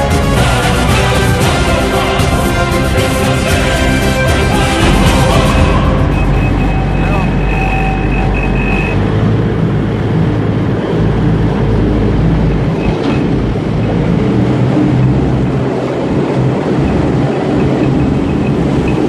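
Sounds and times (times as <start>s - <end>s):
boat engines rumbling: 0.0s - 19.0s
water rushing along hull: 0.0s - 19.0s.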